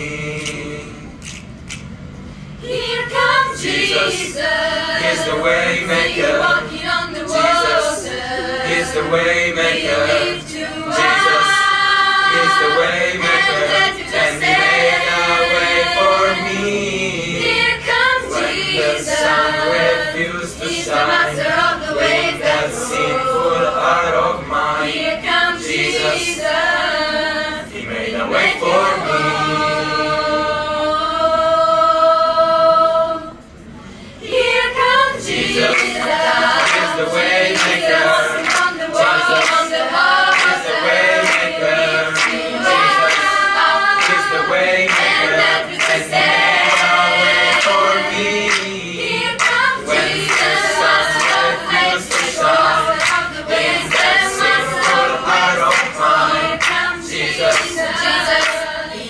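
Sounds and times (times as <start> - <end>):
mixed choir singing in harmony: 0.0 - 1.2, 2.3 - 33.6, 34.2 - 59.0.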